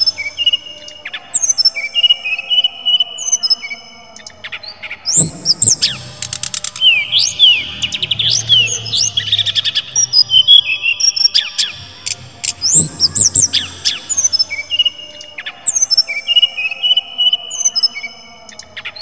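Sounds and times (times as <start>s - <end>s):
bird singing whistles and trills: 0.0s - 19.0s.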